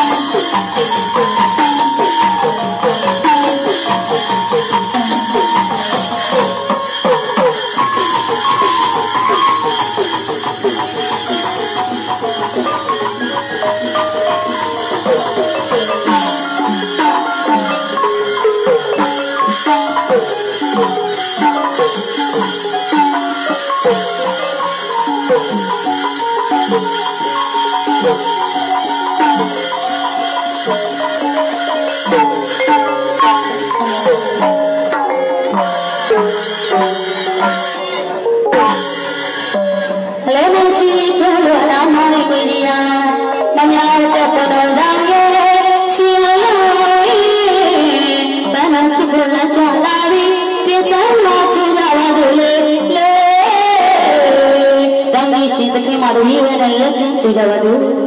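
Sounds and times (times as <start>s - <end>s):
shaker-like rattle: 0.0s - 57.5s
tuned percussion melody: 0.0s - 58.0s.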